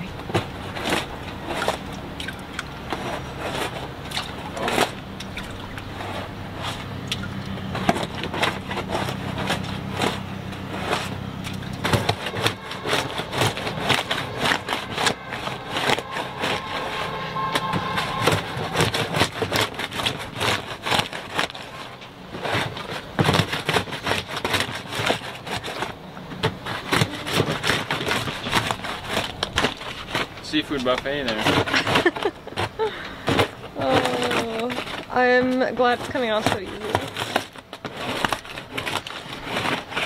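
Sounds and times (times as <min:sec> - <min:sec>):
paddle scraping boat hull: 0:00.0 - 0:40.0
steady low hum: 0:00.0 - 0:40.0.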